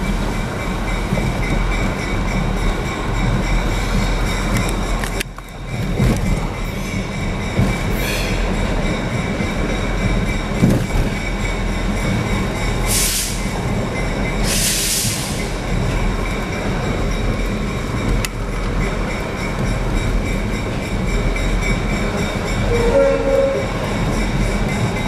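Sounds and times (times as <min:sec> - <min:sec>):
diesel locomotive engine: 0:00.0 - 0:25.0.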